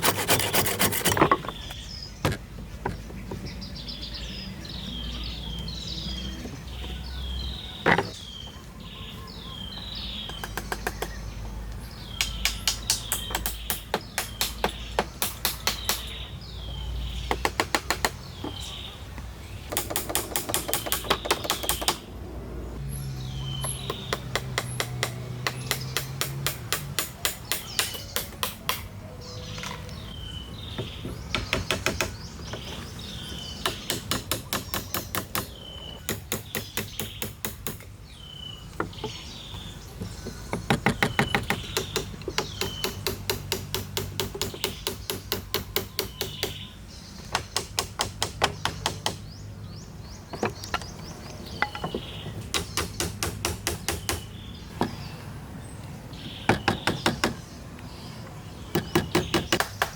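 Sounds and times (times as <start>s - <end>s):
bird chirping: 0.0s - 26.2s, 27.2s - 59.9s.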